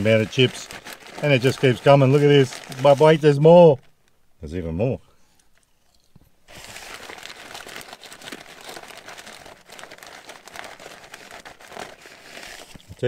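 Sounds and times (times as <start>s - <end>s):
paper wrapping crinkling: 0.0s - 4.0s, 6.5s - 13.0s.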